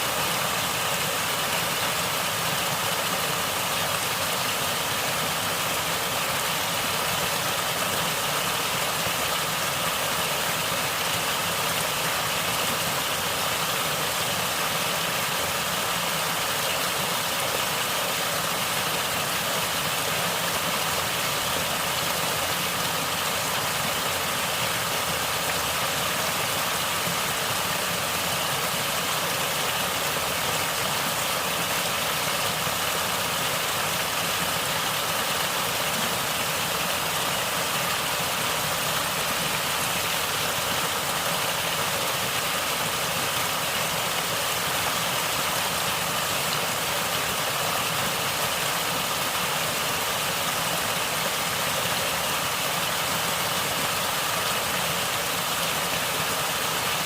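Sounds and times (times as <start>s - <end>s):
stream water gurgling: 0.0s - 57.0s.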